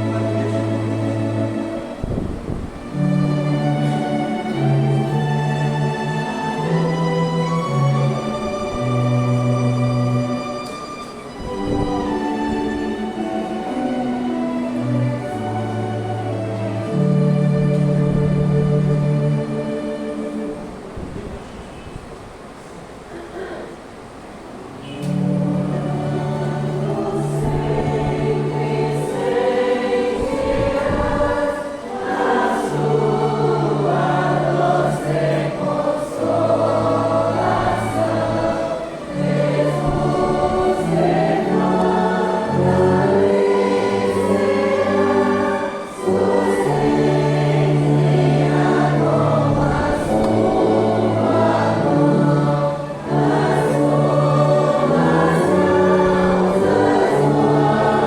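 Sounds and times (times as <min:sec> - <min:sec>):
orchestral accompaniment: 0:00.0 - 0:21.6, 0:24.8 - 0:58.0
congregation singing a hymn: 0:00.0 - 0:22.7, 0:23.4 - 0:58.0.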